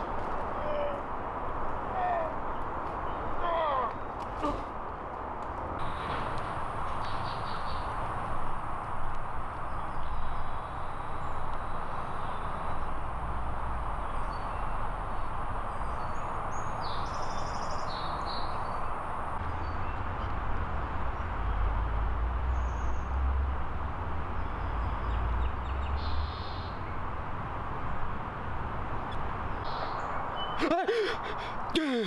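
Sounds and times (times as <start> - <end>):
rushing outdoor background noise: 0.0 - 32.0.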